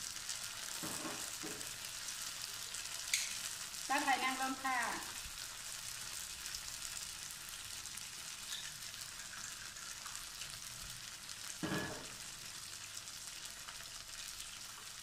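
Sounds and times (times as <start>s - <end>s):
vegetables sizzling in a wok: 0.0s - 15.0s.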